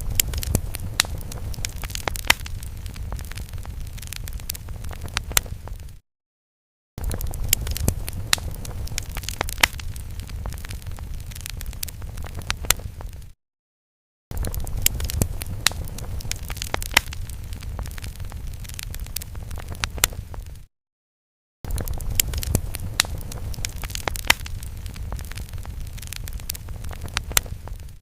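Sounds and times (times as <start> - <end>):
fire crackling and popping: 0.0 - 6.0, 7.0 - 13.4, 14.3 - 20.7, 21.7 - 28.0.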